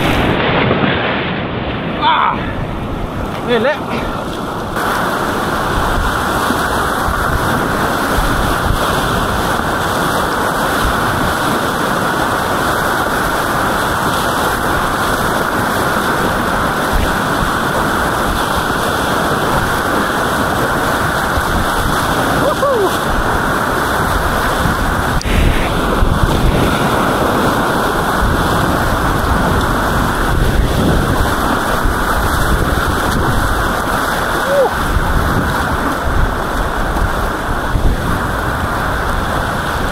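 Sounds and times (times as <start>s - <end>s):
whitewater rapids rushing: 1.6s - 39.9s.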